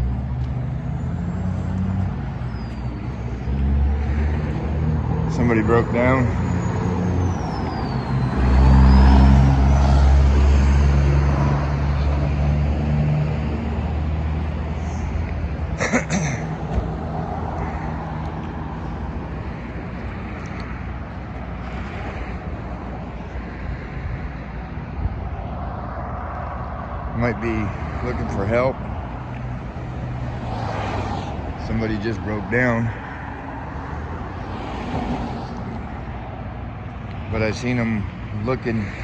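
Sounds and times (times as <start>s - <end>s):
road noise: 0.0s - 39.0s
vehicle engine rumble: 0.0s - 39.0s.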